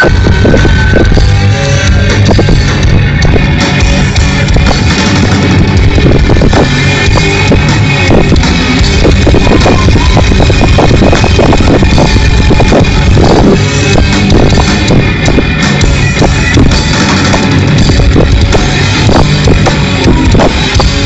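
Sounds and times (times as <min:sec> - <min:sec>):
drum kit: 0:00.0 - 0:21.0
electric guitars: 0:00.0 - 0:21.0.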